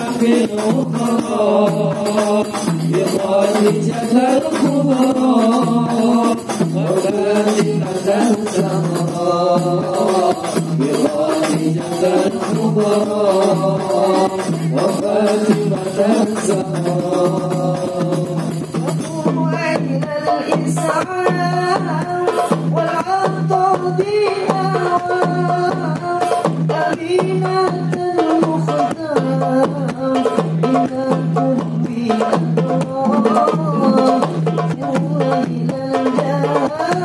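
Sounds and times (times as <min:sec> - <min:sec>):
frame drums with jingling: 0:00.0 - 0:37.0
large hand drum: 0:00.0 - 0:37.0
voices chanting a devotional song: 0:00.0 - 0:37.0.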